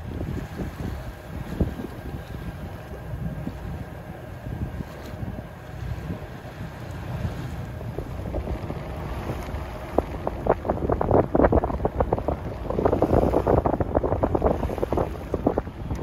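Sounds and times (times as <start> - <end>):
steady low rumble: 0.0 - 16.0
wind buffeting microphone: 0.0 - 16.0.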